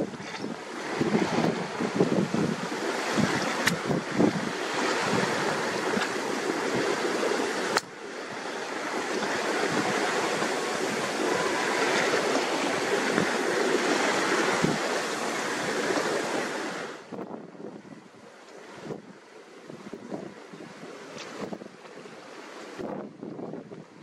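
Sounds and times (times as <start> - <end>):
water rushing along a hull: 0.0 - 24.0.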